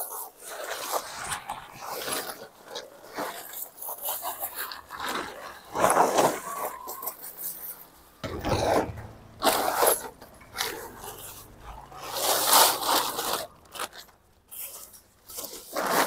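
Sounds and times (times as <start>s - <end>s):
tent fabric rustling and crinkling: 0.0s - 7.8s, 9.4s - 16.0s.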